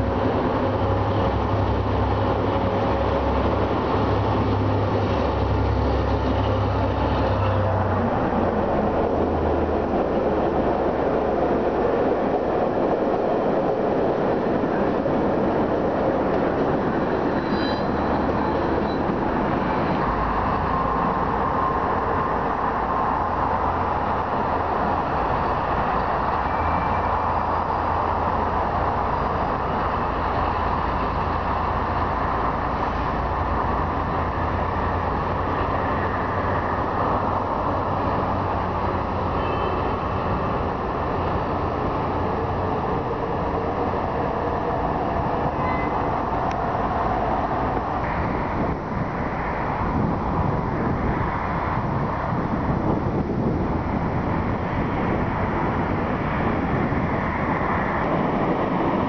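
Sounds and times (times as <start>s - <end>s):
diesel train rumbling: 0.0s - 59.0s.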